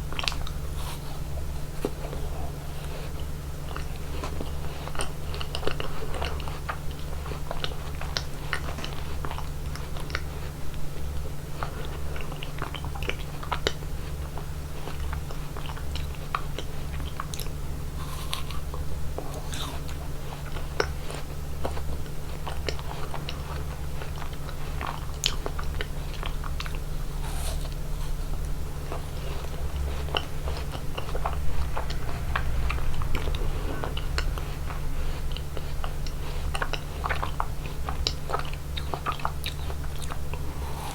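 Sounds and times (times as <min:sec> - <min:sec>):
biting and chewing ice cream: 0:00.0 - 0:40.9
steady low hum: 0:00.0 - 0:40.9.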